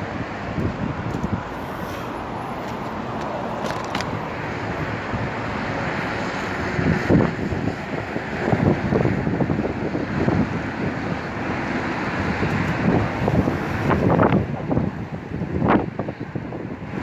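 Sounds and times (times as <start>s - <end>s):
road traffic noise: 0.0s - 17.0s
wind buffeting microphone: 0.0s - 17.0s.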